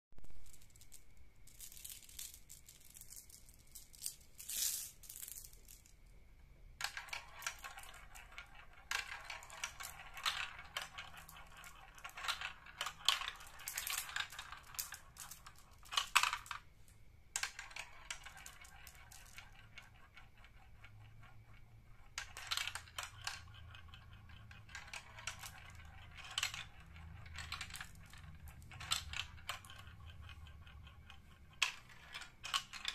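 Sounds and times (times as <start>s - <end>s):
glass marbles rolling on plastic track: 0.2s - 5.9s, 6.8s - 16.7s, 17.4s - 32.9s.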